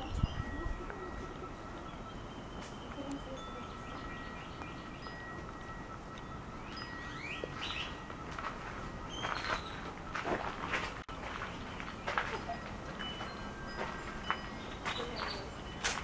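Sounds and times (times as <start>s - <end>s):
faint steady ringing tone: 0.0s - 16.0s
small birds chirping: 0.0s - 16.0s.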